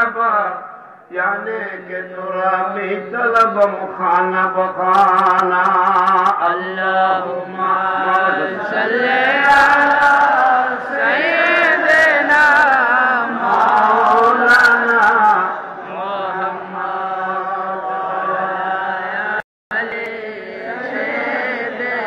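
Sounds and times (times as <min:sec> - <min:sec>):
man chanting through loudspeakers: 0:00.0 - 0:20.7.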